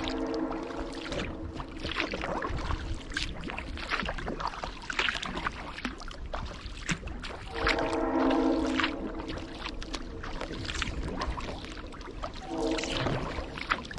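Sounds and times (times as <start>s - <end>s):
paddle splashing in water: 0.0s - 13.9s.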